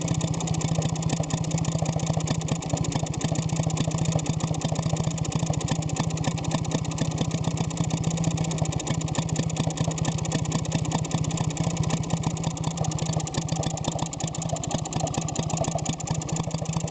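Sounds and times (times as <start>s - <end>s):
two-stroke engine running: 0.0s - 16.9s.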